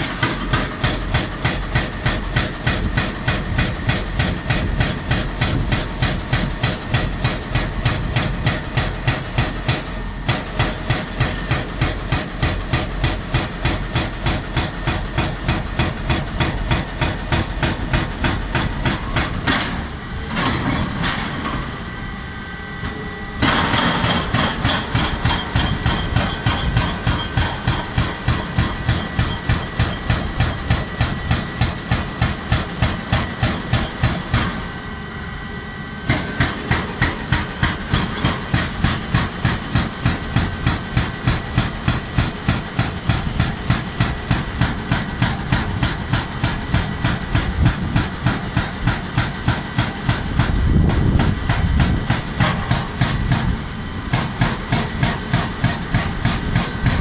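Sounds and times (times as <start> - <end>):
hydraulic breaker hammering rock: 0.0 - 21.8, 22.8 - 34.9, 36.0 - 57.0
diesel engine running: 0.0 - 57.0.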